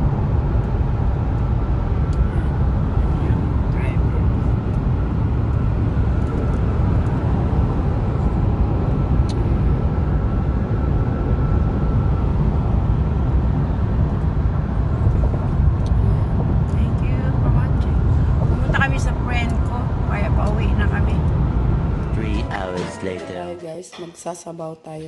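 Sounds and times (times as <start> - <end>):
car road and engine rumble: 0.0 - 23.1
faint whine: 0.0 - 24.3.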